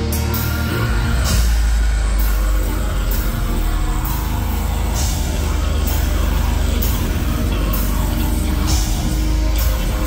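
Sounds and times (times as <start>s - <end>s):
heavy distorted guitars: 0.0s - 10.0s.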